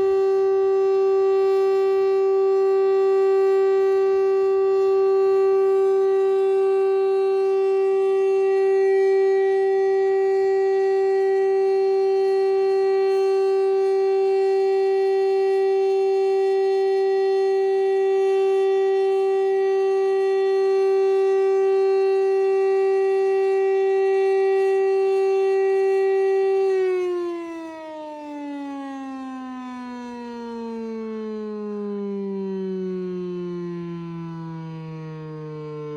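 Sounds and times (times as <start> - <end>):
warning siren steady tone: 0.0 - 35.9.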